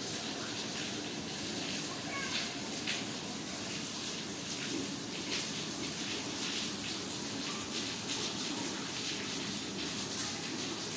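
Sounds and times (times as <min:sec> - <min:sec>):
rain drops splashing into puddle: 0:00.0 - 0:10.9.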